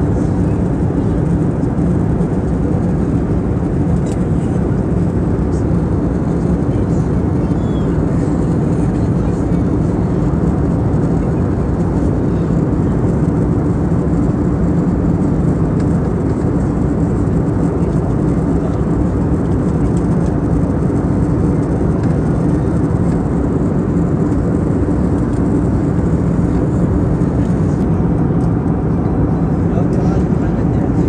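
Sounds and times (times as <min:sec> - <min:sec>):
aircraft cabin engine rumble: 0:00.0 - 0:31.0.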